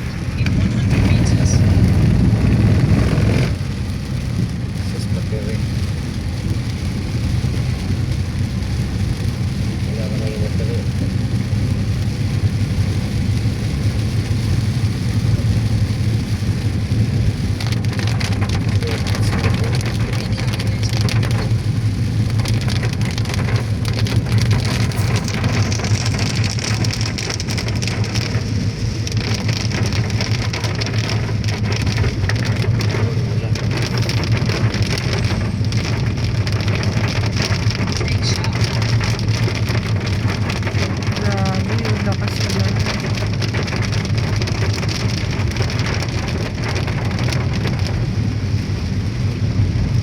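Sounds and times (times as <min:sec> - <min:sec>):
engine and road drone: 0:00.0 - 0:50.0
rain pelting car roof: 0:00.0 - 0:50.0.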